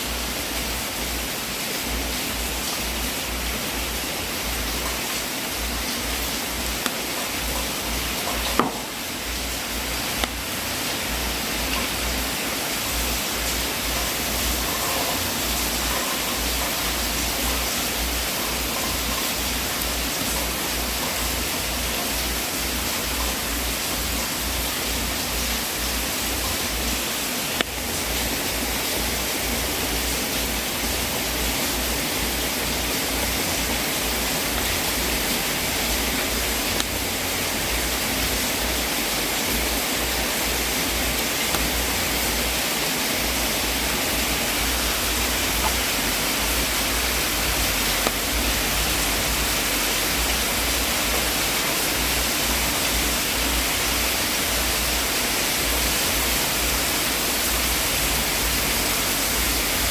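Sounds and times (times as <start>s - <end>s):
wood fire hissing: 0.0s - 59.9s.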